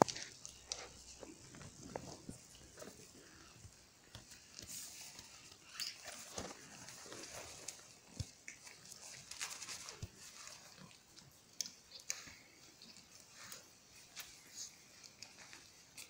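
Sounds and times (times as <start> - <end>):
puppies moving and playing: 0.0 - 16.0
soft puppy vocal noise: 0.0 - 16.0.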